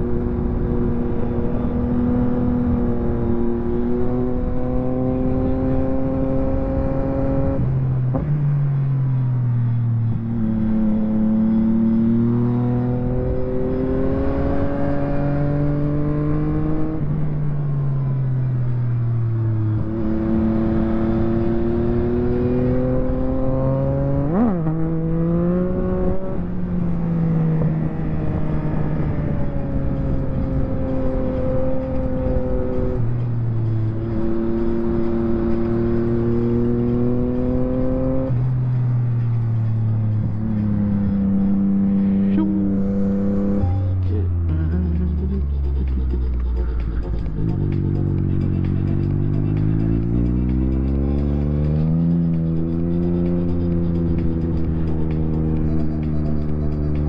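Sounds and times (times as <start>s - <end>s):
motorcycle engine revving: 0.0s - 8.3s, 10.0s - 17.4s, 18.4s - 57.0s.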